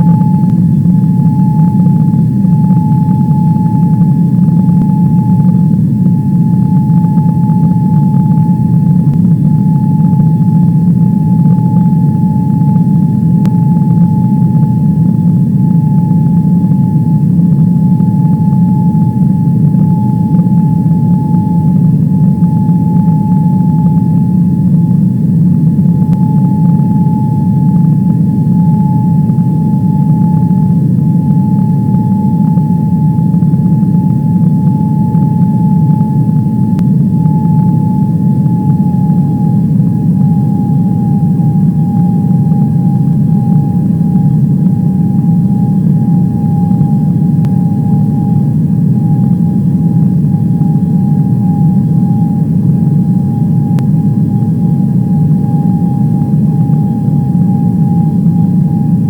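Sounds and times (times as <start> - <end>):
airliner engines in cabin: 0.0 - 59.0.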